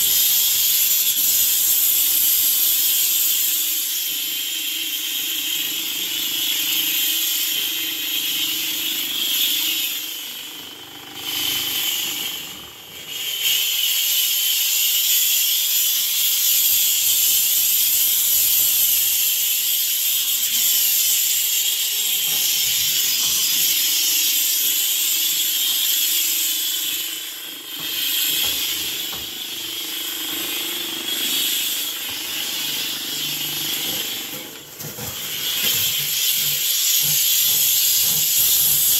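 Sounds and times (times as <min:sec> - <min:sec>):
steam cleaner hissing: 0:00.0 - 0:38.9.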